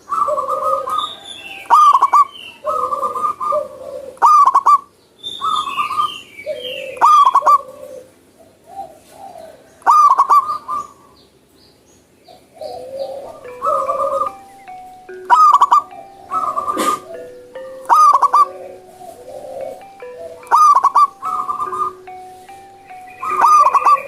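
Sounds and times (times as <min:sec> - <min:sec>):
dove cooing: 0:00.0 - 0:11.1, 0:12.4 - 0:24.0
birds chirping: 0:00.0 - 0:24.0.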